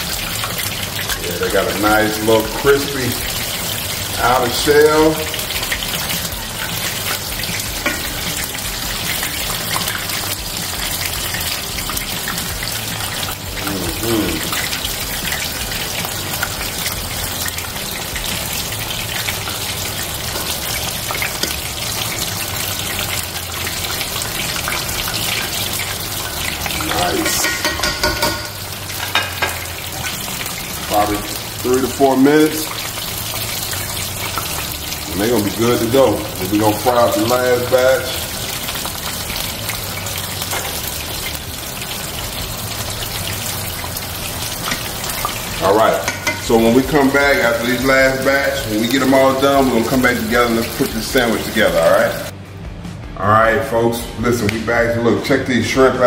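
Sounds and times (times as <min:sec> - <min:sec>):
shrimp frying in hot oil: 0:00.0 - 0:52.4.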